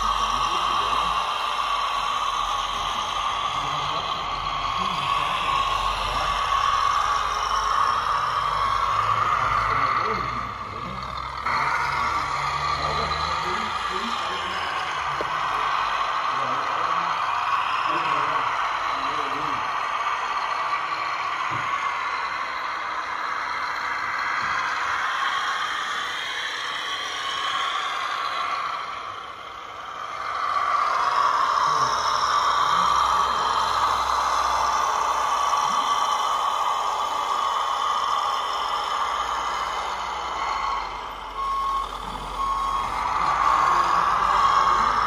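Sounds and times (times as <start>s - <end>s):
reversing beeper beeps: 0.0s - 2.0s, 2.6s - 45.0s
toy truck mechanical noise: 0.0s - 45.0s.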